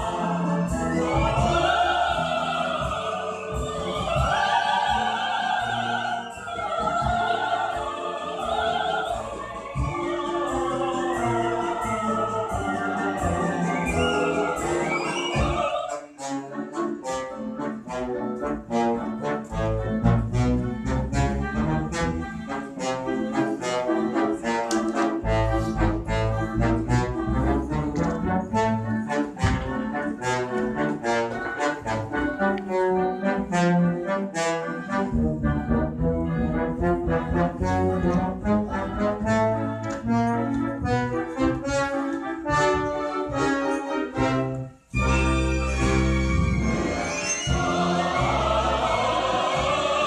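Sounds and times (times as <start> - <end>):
brass-led instrumental music: 0.0 - 50.0.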